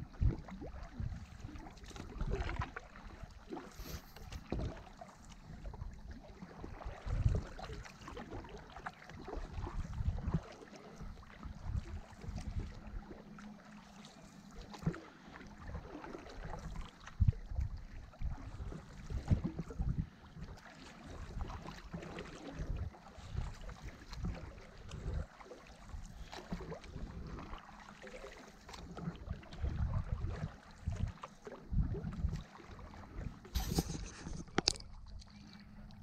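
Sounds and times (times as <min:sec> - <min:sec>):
water splashes and drips: 0:00.0 - 0:36.0
paddles stroking through water: 0:00.1 - 0:36.0.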